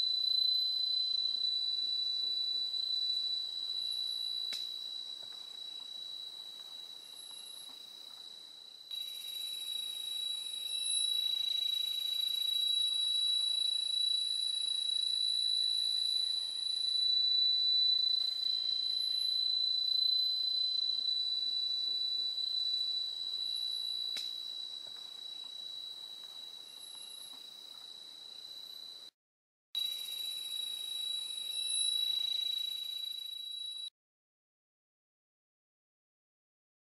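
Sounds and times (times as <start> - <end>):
short high insect chirps: 0.0 - 8.1, 8.9 - 29.1, 29.8 - 33.9
higher insect chorus: 0.0 - 29.1, 29.8 - 33.9
insects high-pitched ringing: 0.0 - 29.1, 29.8 - 34.0.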